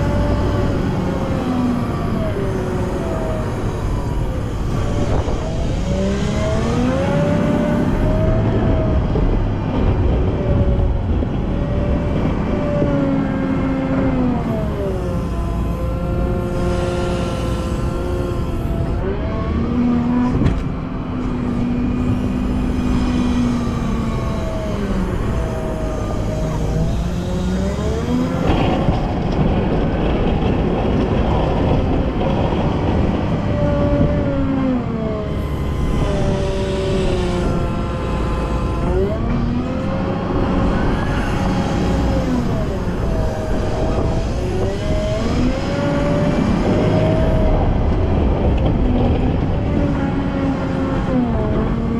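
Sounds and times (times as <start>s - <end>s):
diesel engine running under load: 0.0s - 51.9s
engine whine: 0.0s - 51.9s.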